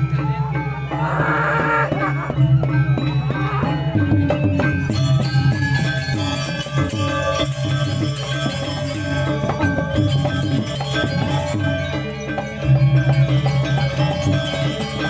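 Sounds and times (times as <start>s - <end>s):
gamelan orchestra playing: 0.0s - 15.0s.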